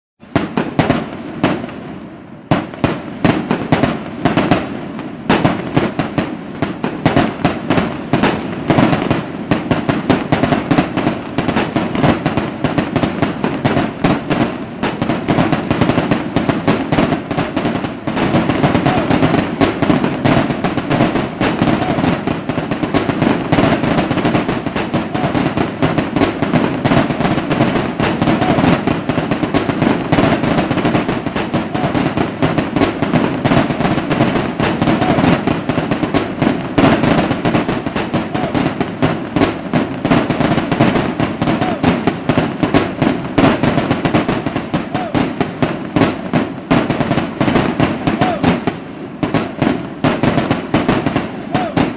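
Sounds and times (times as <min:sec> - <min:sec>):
fireworks bangs and crackling: 0:00.2 - 0:51.9.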